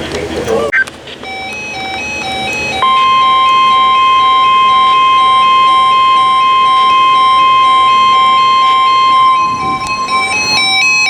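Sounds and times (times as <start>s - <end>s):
faint pulsing beep: 0.7s - 11.0s
loud high steady beep: 1.2s - 11.0s.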